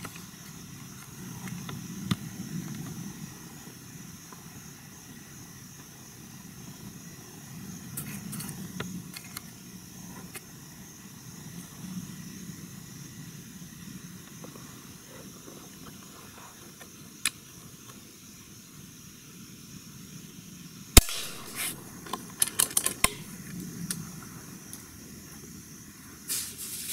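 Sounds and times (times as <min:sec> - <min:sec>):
steady high hiss: 0:00.0 - 0:26.9.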